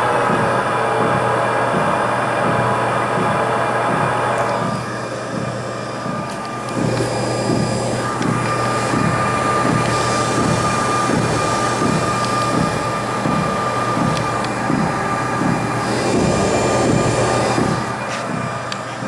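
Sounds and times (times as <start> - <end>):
treadmill thumping: 0.0 - 18.7
treadmill motor whine: 0.0 - 19.0.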